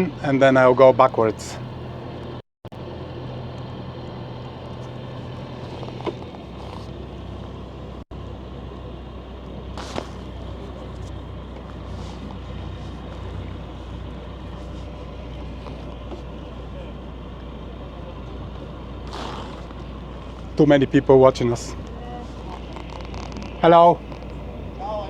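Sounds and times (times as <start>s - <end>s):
boat diesel engine humming: 0.0s - 25.0s.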